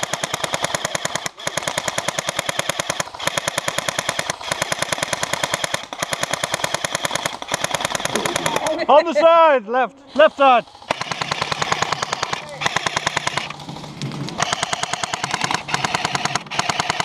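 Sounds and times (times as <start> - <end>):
airsoft guns firing rapidly: 0.0 - 9.1, 10.1 - 17.0.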